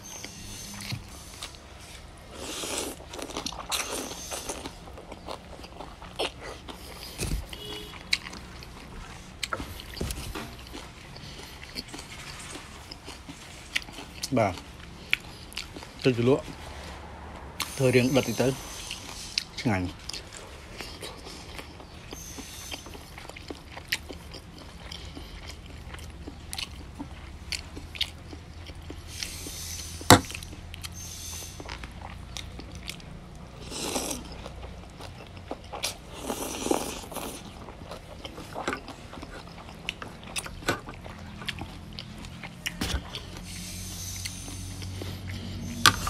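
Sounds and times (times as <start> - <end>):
wet chewing and lip smacks: 0.0 - 16.6, 18.8 - 31.0, 31.6 - 46.0.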